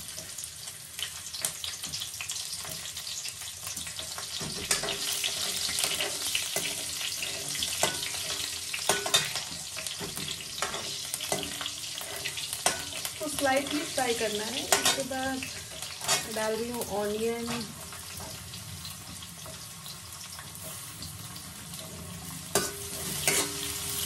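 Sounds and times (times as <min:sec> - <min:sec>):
chillies sizzling in hot oil: 0:00.0 - 0:24.0.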